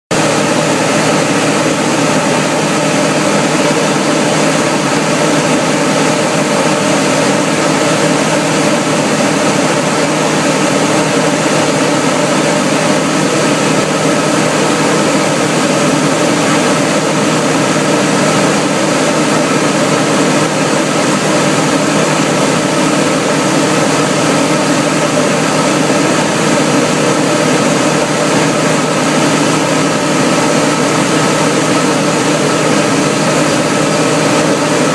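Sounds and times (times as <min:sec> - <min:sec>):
airflow rush: 0:00.1 - 0:34.9
propeller airplane engine droning: 0:00.1 - 0:34.9.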